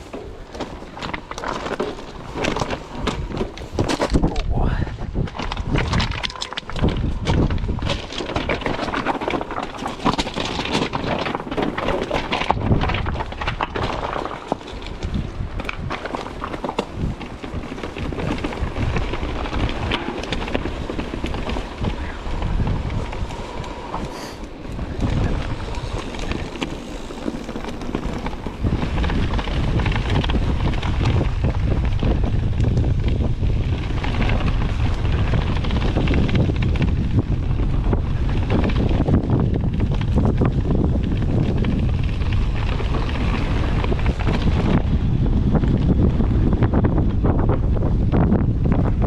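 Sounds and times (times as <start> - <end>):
bike rattling on rough ground: 0.0 - 49.0
wind buffeting microphone: 0.0 - 49.0.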